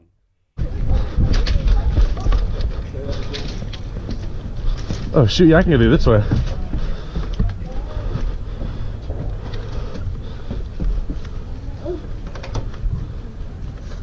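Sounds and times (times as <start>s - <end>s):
wind rumble on microphone: 0.6s - 14.0s.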